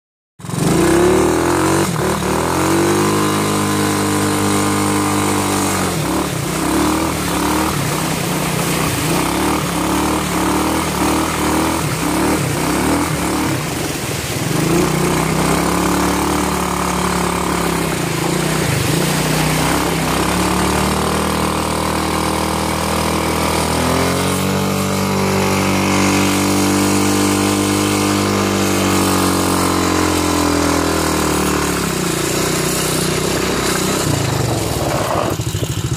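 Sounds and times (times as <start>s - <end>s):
small engine revving: 0.4s - 35.9s
water splashing around wheels: 0.4s - 35.9s.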